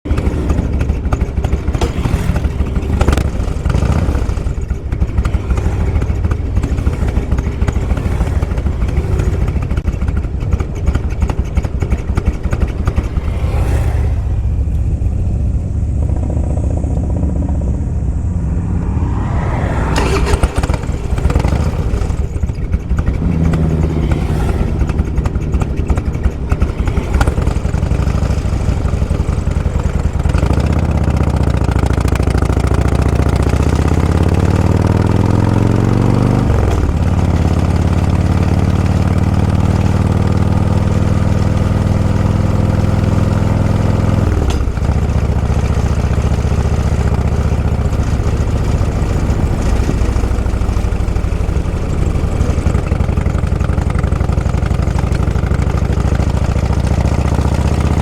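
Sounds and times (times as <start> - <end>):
motorcycle engines running: 0.0 - 58.0.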